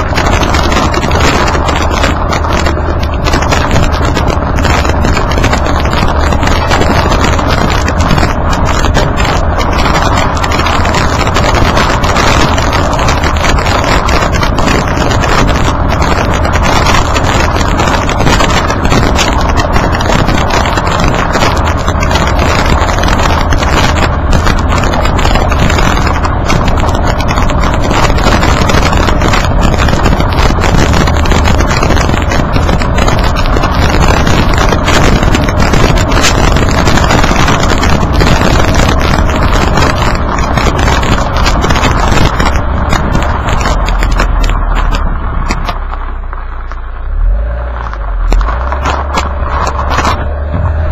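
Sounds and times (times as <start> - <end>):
wind buffeting microphone: 0.0 - 46.9
gravel crackling clicks: 0.0 - 50.9
tyre rumble on gravel: 0.0 - 50.9.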